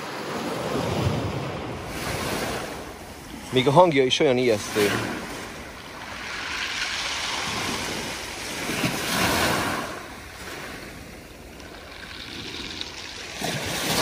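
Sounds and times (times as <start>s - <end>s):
waves washing over pebbles: 0.0s - 14.0s.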